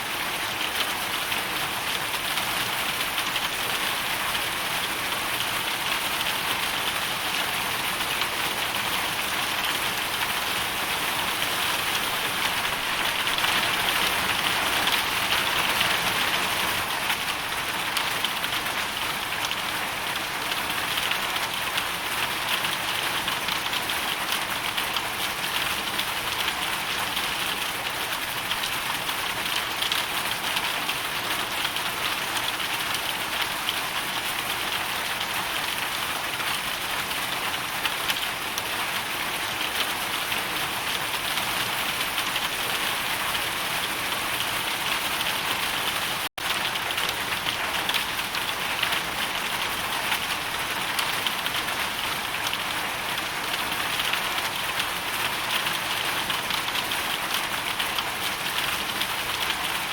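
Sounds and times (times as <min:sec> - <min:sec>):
hail and heavy rain pelting: 0:00.1 - 0:59.9.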